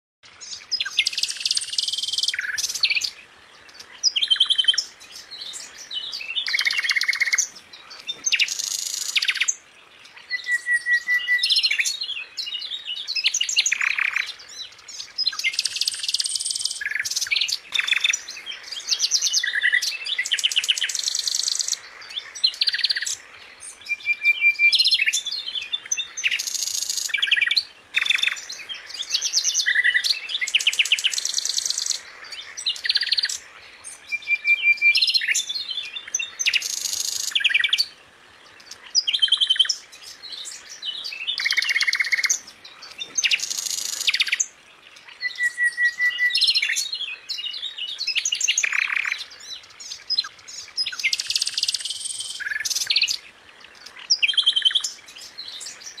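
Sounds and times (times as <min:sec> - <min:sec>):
songbird singing trills and whistles: 0:00.3 - 0:56.0.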